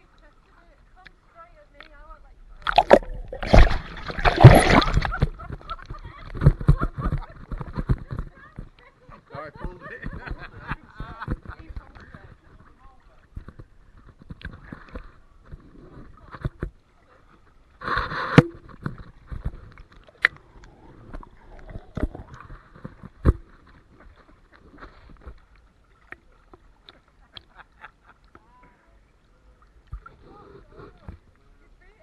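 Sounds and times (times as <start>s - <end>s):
pool water lapping and splashing: 0.0s - 32.0s.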